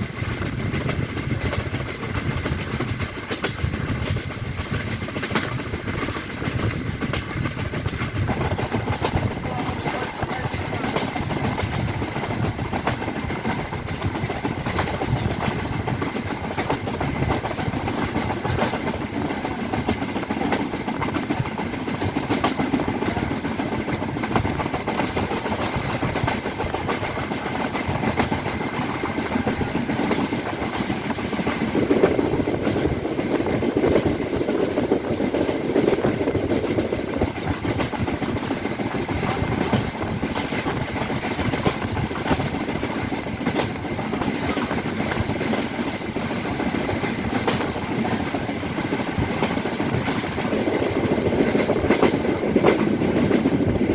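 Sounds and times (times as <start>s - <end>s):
train carriage rumbling and rattling: 0.0s - 53.9s
wheels clicking over rail joints: 0.0s - 53.9s.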